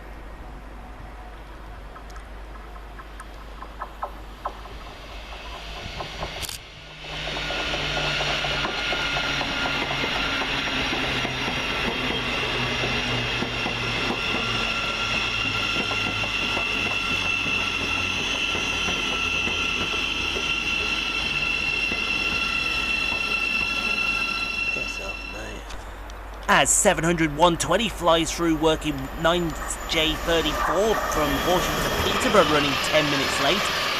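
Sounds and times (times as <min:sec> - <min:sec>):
high train whine: 0:00.0 - 0:33.9
train rail rumble: 0:00.0 - 0:33.9.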